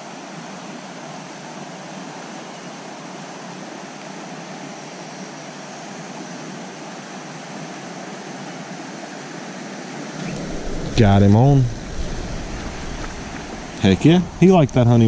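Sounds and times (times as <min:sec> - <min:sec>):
creek water flowing: 0:00.1 - 0:15.0.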